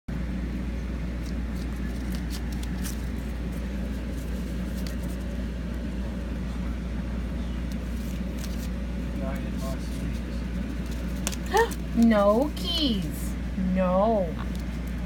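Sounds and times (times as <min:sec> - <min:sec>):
low steady hum: 0:00.1 - 0:15.0.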